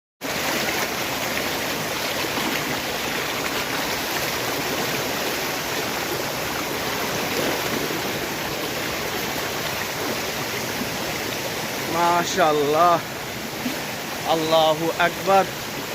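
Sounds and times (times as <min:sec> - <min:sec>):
waterfall rushing: 0:00.2 - 0:15.9.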